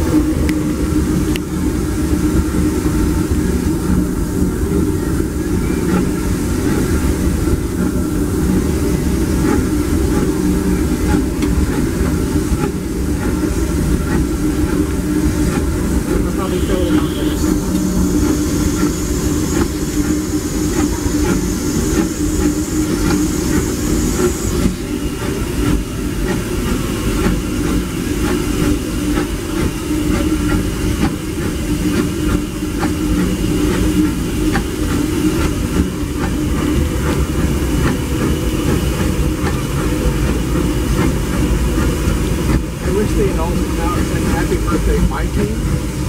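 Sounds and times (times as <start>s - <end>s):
steam train rumbling: 0.0s - 46.0s.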